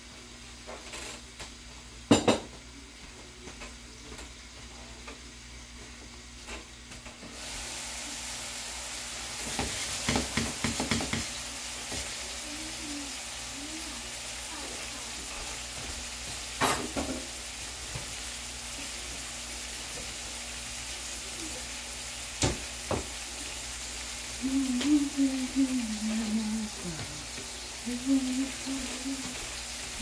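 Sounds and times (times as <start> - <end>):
vegetables sizzling in oil: 4.3 - 30.0.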